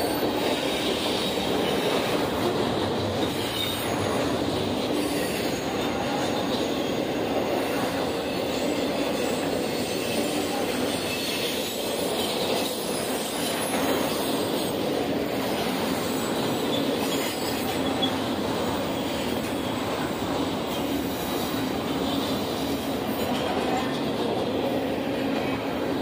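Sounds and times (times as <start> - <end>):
freight train wheels rolling on rails: 0.0 - 26.0.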